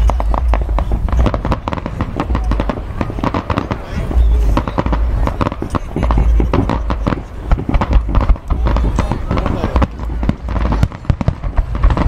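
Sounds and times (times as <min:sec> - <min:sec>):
firework bangs and crackling: 0:00.0 - 0:12.0
low rumbling booms: 0:00.0 - 0:12.0.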